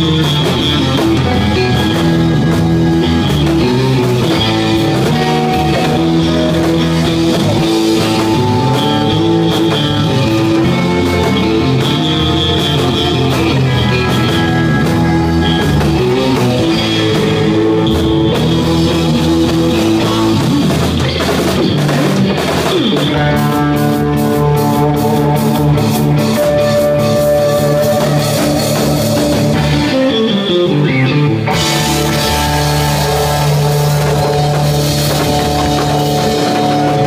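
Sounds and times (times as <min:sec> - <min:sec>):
surf rock band playing: 0:00.0 - 0:37.0.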